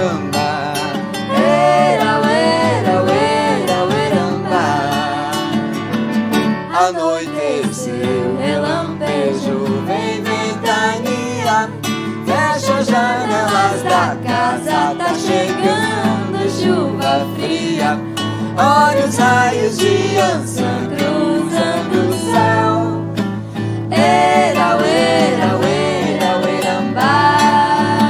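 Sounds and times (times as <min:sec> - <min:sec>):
acoustic guitar: 0:00.0 - 0:28.0
piano: 0:00.0 - 0:28.0
voices singing: 0:00.0 - 0:28.0.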